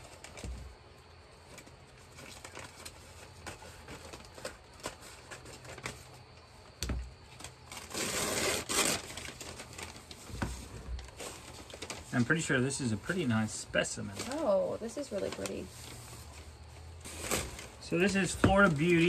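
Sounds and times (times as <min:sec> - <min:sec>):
paper crinkling and tearing: 0:01.4 - 0:06.2, 0:07.3 - 0:19.0.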